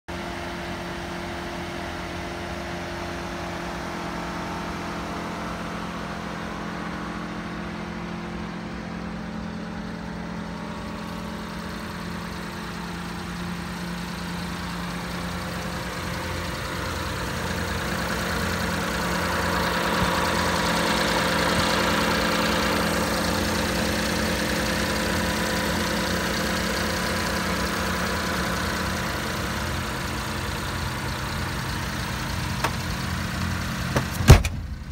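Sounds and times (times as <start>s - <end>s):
small truck engine idling: 0.1s - 34.9s.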